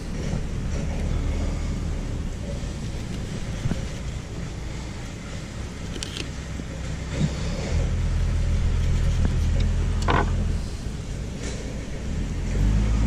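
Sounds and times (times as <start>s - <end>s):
low motor rumble: 0.0s - 13.0s.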